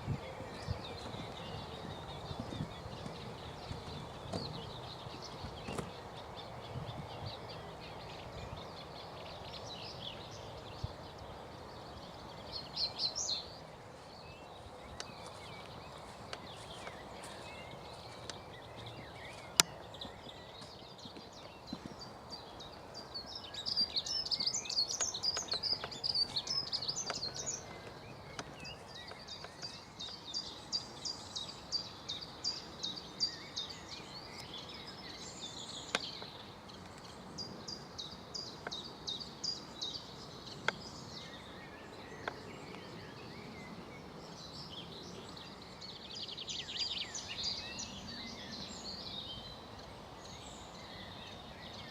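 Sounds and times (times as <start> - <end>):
songbirds singing: 0.0 - 51.9
steady outdoor hiss: 0.0 - 51.9.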